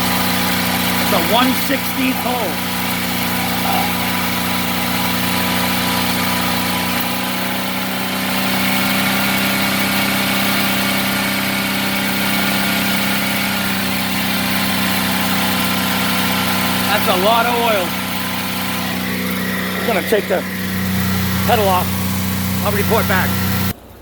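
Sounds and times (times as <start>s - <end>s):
thin high whine: 0.0s - 23.8s
engine revving at fast idle: 0.0s - 24.0s.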